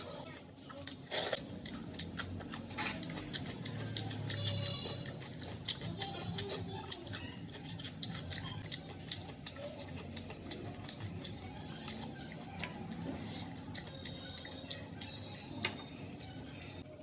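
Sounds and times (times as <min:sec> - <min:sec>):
chewing sounds: 0:00.0 - 0:17.0.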